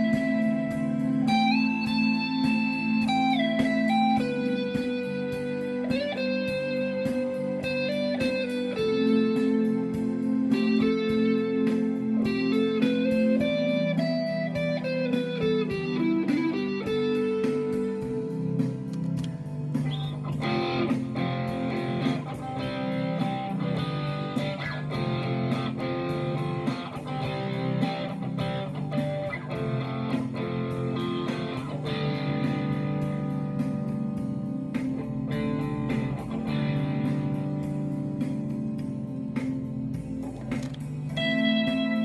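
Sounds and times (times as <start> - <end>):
electric guitar: 0.0 - 42.0.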